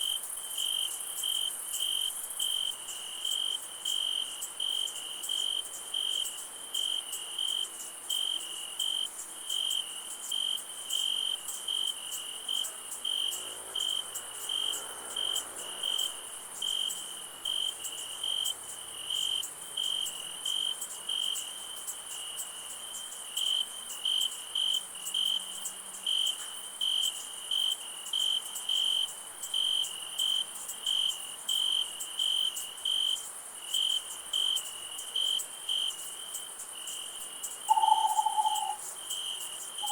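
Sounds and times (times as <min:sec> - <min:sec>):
crickets chirping: 0:00.0 - 0:39.9
high-pitched insect trill: 0:00.0 - 0:39.9.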